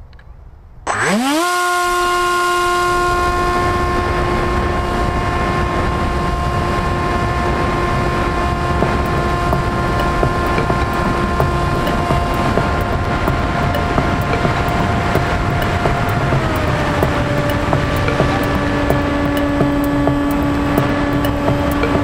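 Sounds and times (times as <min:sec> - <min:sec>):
electric motor and propeller whine: 0:00.9 - 0:22.0.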